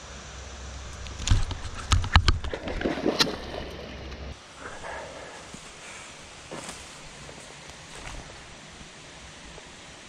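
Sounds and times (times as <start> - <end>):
low steady rumble: 0.0 - 10.0
water splashing: 0.7 - 9.6.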